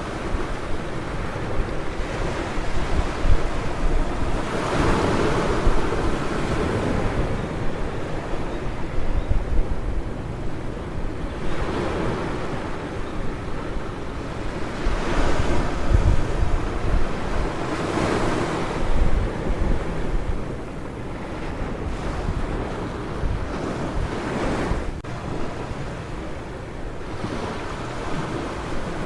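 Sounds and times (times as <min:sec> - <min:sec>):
ocean surf breaking: 0:00.0 - 0:29.0
wind rumbling on microphone: 0:00.0 - 0:29.0.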